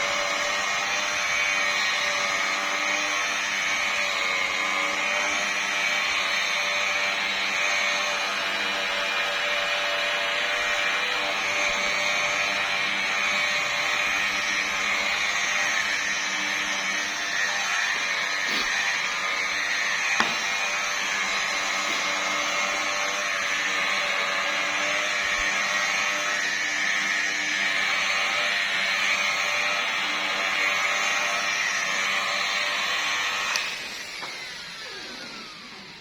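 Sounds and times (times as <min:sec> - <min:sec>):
machine polisher motor hum: 0:00.0 - 0:36.0.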